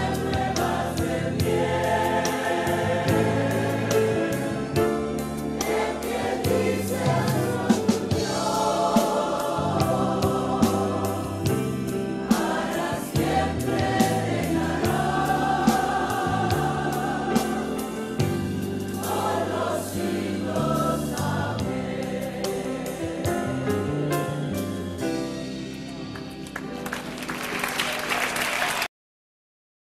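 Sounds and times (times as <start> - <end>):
congregation singing a hymn: 0.0 - 24.6
instrumental accompaniment with beat: 0.0 - 27.7.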